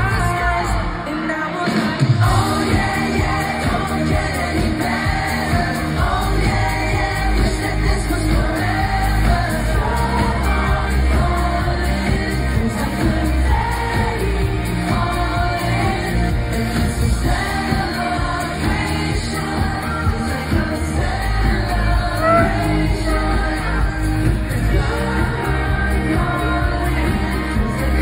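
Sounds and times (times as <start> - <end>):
live pop band playing: 0.0 - 28.0
sung lead vocals: 0.0 - 28.0.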